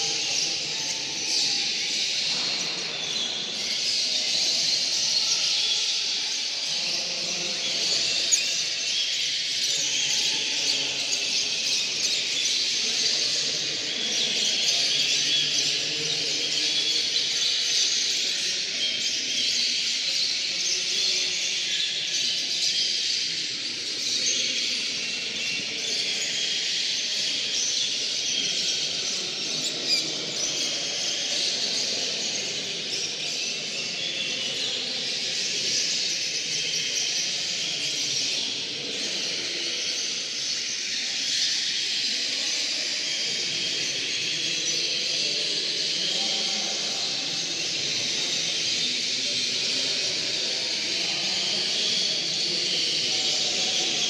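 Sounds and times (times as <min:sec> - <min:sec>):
canaries and finches singing: 0:00.0 - 0:54.0.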